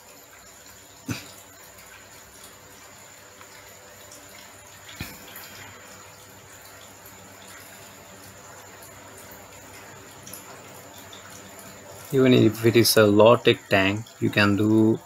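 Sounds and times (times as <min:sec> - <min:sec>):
running water trickling: 0:00.0 - 0:15.0
water drips: 0:00.0 - 0:15.0.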